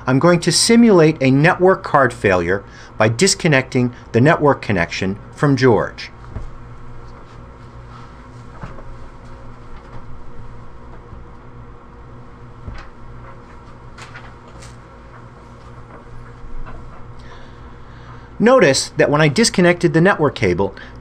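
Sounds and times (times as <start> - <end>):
server hum: 0.0 - 21.0.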